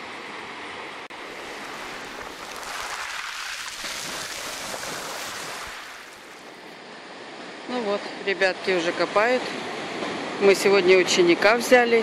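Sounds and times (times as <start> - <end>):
ocean surf on sand: 0.0 - 12.0.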